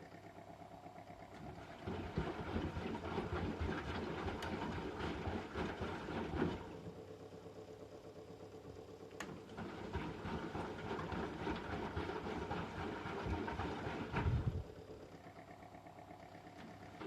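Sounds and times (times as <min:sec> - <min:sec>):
washing machine humming and churning: 0:00.0 - 0:17.0.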